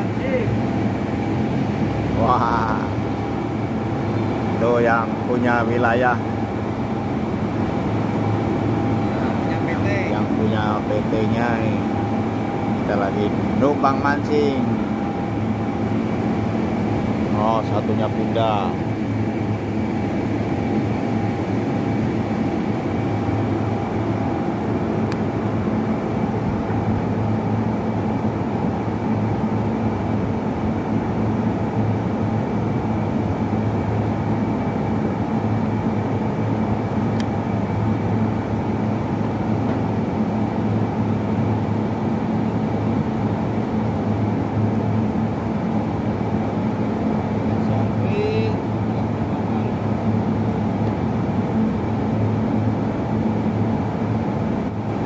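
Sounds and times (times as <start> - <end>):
factory machinery hum: 0.0 - 55.0
thin high whine: 0.0 - 55.0.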